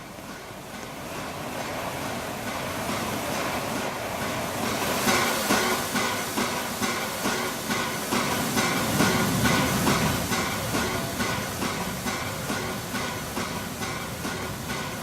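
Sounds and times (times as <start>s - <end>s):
train approaching: 0.0s - 15.0s.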